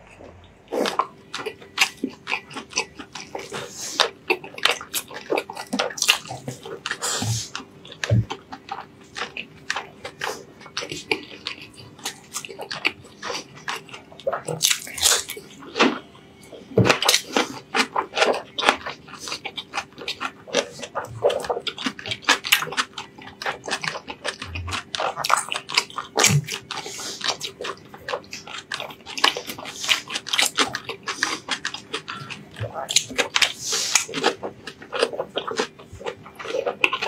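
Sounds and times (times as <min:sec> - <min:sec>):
wet chewing and lip clicks: 0:00.0 - 0:37.0.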